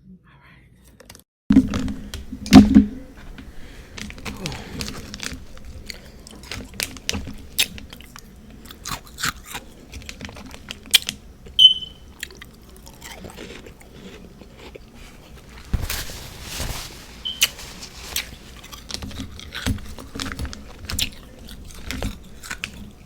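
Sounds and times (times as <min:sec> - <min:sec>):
crunching and chewing frost: 0:01.5 - 0:23.0.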